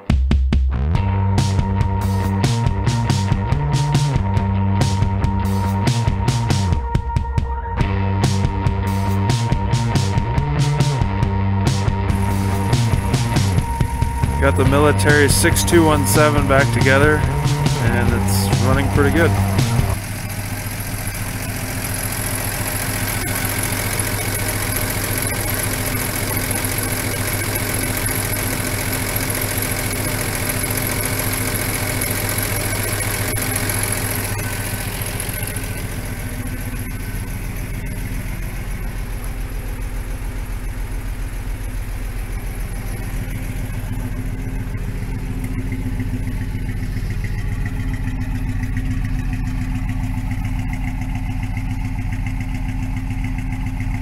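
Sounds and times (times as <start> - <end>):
car engine idling: 0.9 - 54.0.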